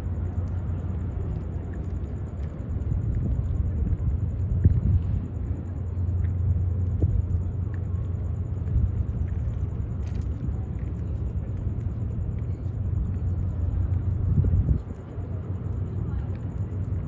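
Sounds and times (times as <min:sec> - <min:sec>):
ferry engines rumbling: 0:00.0 - 0:17.0.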